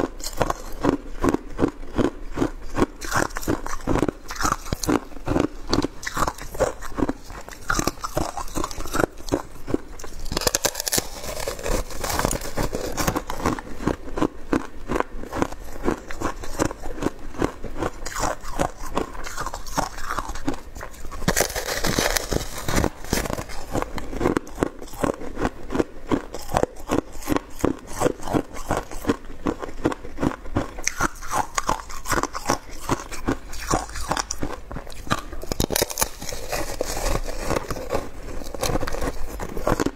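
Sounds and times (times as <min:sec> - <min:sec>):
shaved ice being chewed: 0:00.0 - 0:39.9.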